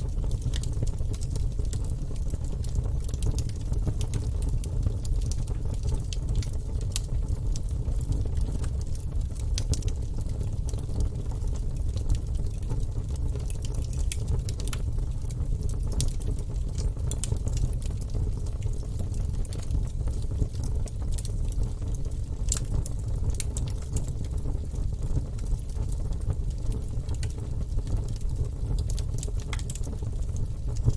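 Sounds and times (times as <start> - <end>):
low rumble of flames: 0.0 - 30.9
logs crackling and popping: 0.1 - 30.9.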